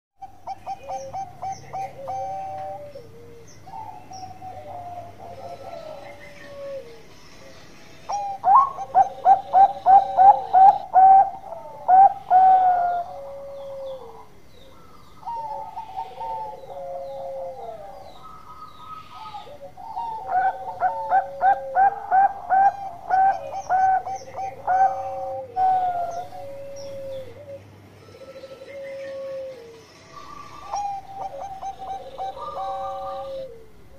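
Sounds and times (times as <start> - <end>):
dove cooing: 0.2 - 7.1, 8.1 - 33.9.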